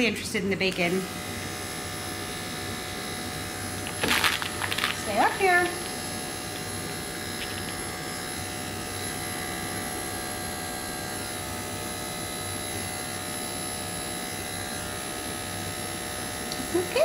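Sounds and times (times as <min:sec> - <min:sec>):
electric clippers humming: 0:00.0 - 0:17.0.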